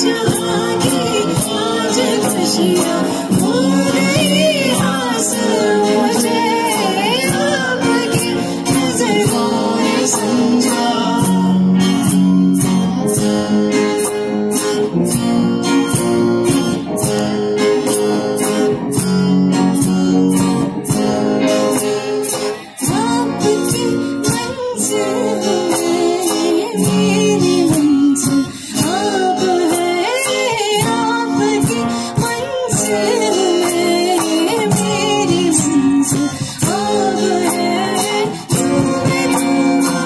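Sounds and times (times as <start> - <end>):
person singing: 0.0 - 14.7, 16.5 - 40.0
percussion beat: 0.0 - 40.0
strummed acoustic guitar: 0.0 - 40.0.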